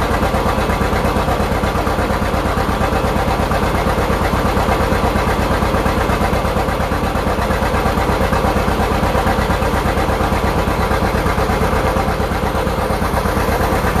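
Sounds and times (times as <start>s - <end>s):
two-cylinder tractor engine popping: 0.0s - 14.0s.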